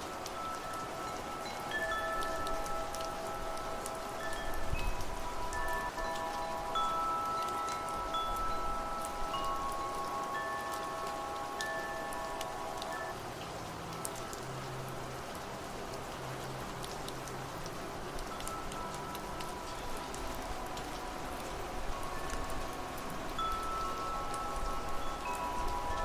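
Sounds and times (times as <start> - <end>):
wind chimes ringing: 0.0 - 15.0, 18.0 - 26.0
steady rain with dripping: 0.0 - 26.0.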